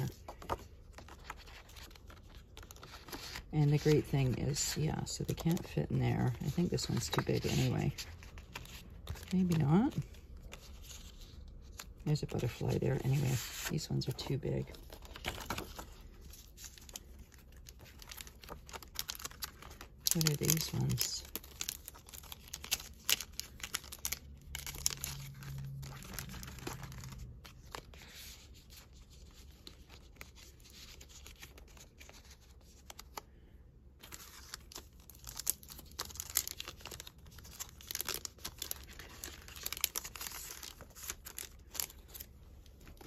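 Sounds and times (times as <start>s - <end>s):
paper rustling and crinkling: 0.0s - 43.0s.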